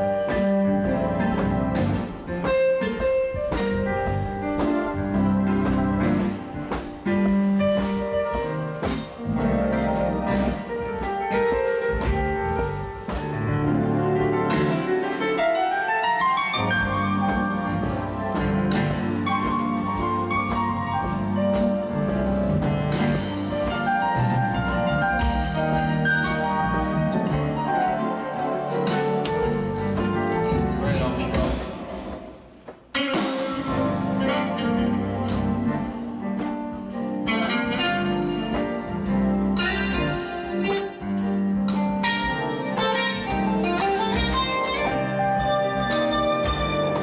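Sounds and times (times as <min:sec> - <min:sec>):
live band instrumental groove: 0:00.0 - 0:47.0.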